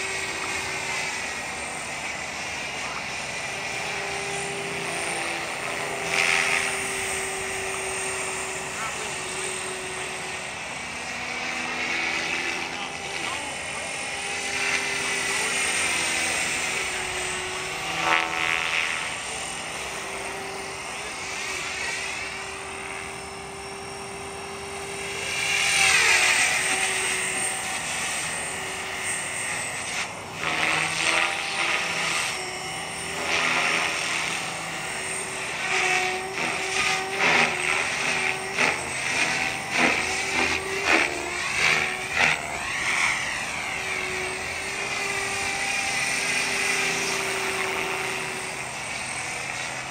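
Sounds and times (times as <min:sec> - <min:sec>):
electric motor whine: 0:00.0 - 0:49.9
helicopter rotor noise: 0:00.0 - 0:49.9.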